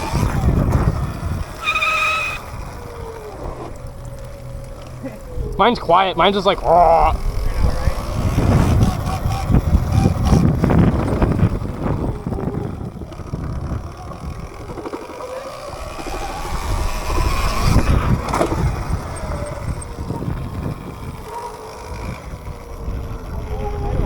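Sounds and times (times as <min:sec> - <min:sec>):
electric motor whining: 0:00.0 - 0:24.0
wind and tyre rumble: 0:00.0 - 0:24.0.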